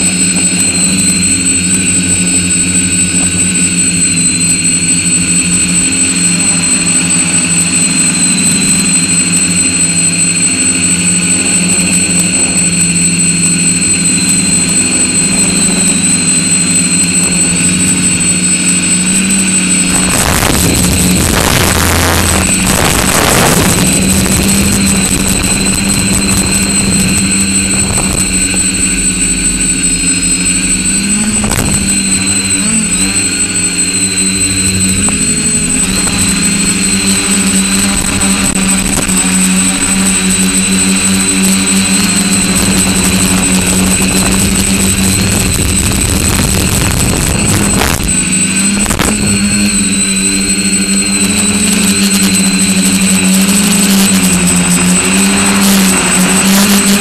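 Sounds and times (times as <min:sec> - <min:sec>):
drone motors humming and whining: 0:00.0 - 0:57.0.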